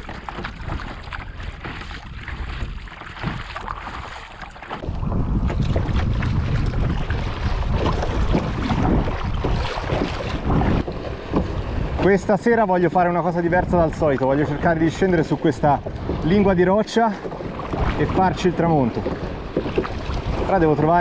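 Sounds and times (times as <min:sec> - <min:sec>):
water splashing around kayak: 0:00.0 - 0:21.0
wind buffeting microphone: 0:00.0 - 0:21.0.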